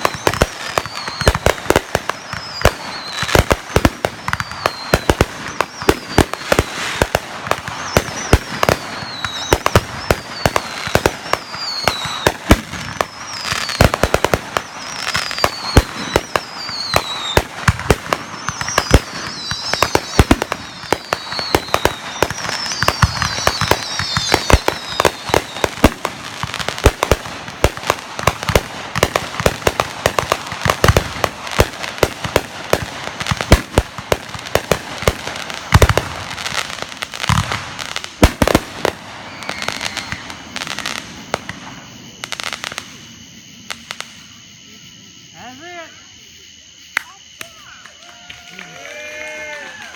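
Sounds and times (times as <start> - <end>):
fireworks bangs and crackles: 0.0 - 49.9
whistling fireworks: 0.0 - 49.9.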